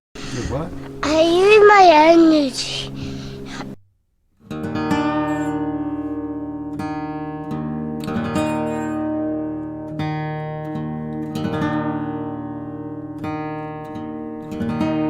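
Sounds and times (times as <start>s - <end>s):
acoustic guitar strumming chords: 0.2s - 3.8s, 4.4s - 15.0s.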